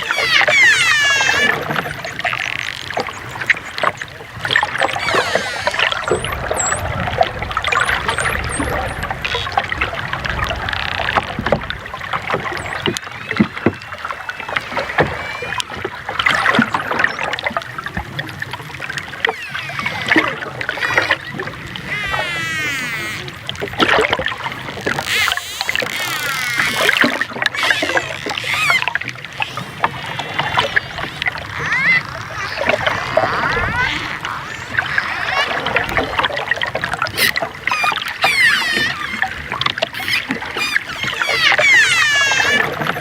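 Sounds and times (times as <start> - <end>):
dolphins whistling: 0.0 - 7.1, 12.5 - 17.9, 19.0 - 23.6, 24.6 - 43.0
dolphins clicking: 0.0 - 43.0.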